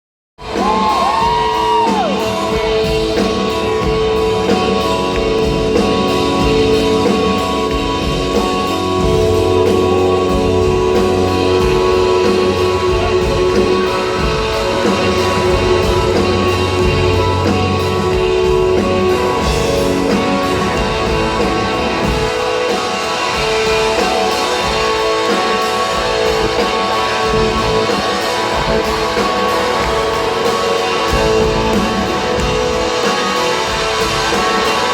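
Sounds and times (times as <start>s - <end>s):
electric guitars strumming: 0.4s - 34.9s
live rock band playing: 0.4s - 34.9s.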